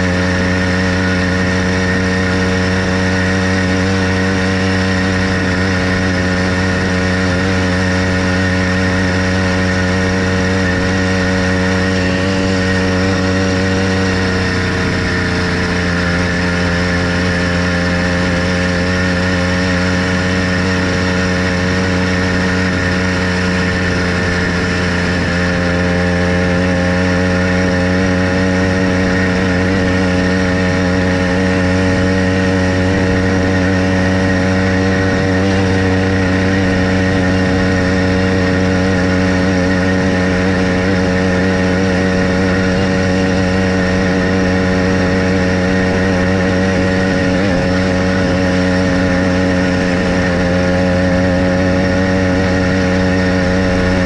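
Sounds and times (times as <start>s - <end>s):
small bicycle engine running: 0.0s - 54.0s.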